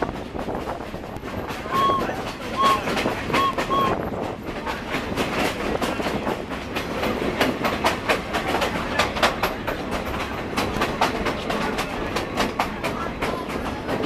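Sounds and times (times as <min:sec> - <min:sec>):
train cars rumbling: 0:00.0 - 0:14.0
wheels clicking and clacking: 0:00.0 - 0:14.0.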